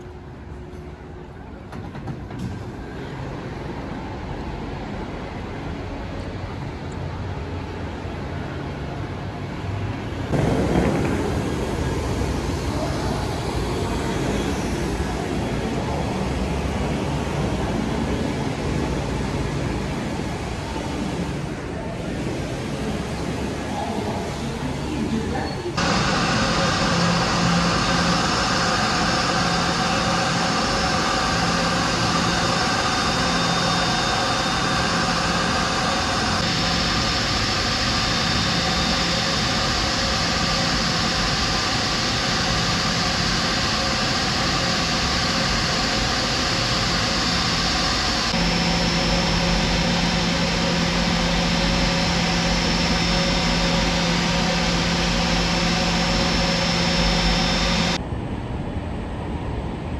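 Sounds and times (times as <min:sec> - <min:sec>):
jet airliner engine rumble: 0:10.2 - 0:59.9.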